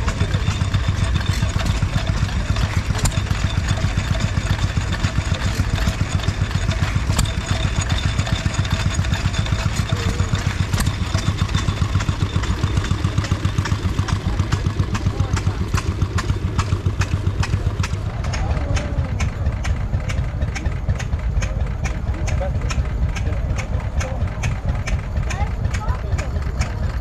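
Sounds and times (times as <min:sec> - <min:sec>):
stationary engines chugging: 0:00.0 - 0:27.0.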